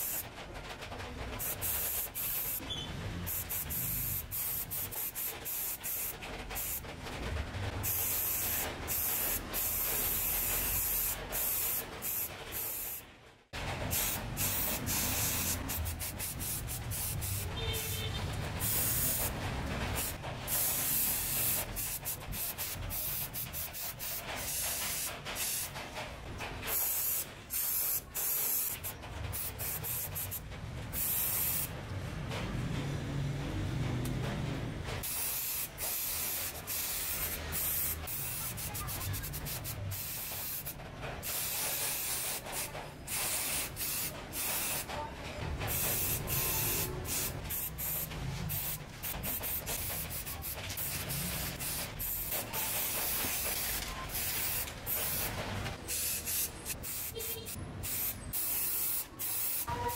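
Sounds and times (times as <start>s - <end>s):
paint spray hissing: 0.0s - 0.2s, 1.4s - 6.8s, 7.8s - 13.0s, 13.9s - 25.8s, 26.7s - 30.4s, 31.0s - 31.7s, 35.0s - 44.9s, 45.7s - 59.7s.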